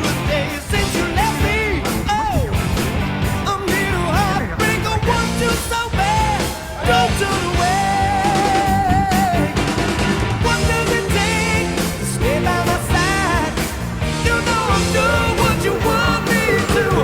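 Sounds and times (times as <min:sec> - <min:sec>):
rock song: 0:00.0 - 0:17.0.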